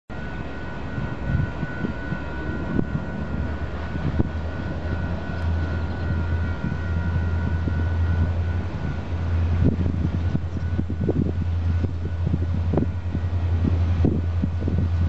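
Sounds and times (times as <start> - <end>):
diesel locomotives droning: 0.1 - 15.0
wind on microphone: 0.7 - 15.0.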